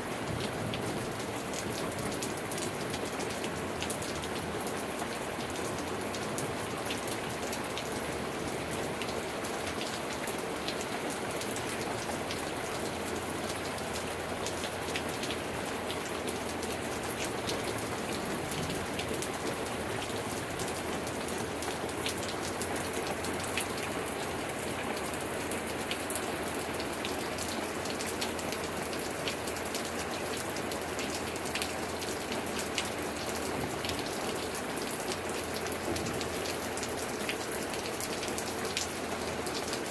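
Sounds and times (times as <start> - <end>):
raindrops ticking: 0.0 - 39.9
steady rain hiss: 0.0 - 39.9.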